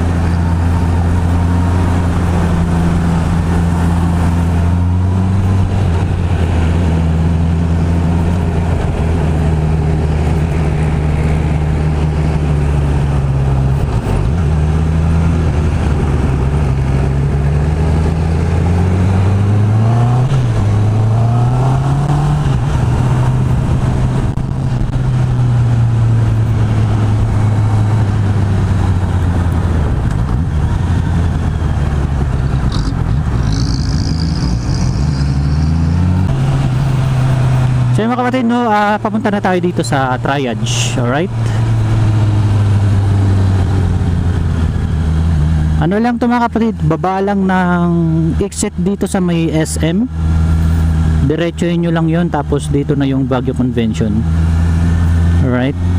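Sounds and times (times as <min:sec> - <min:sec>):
motorcycle engine while riding: 0:00.0 - 0:55.9.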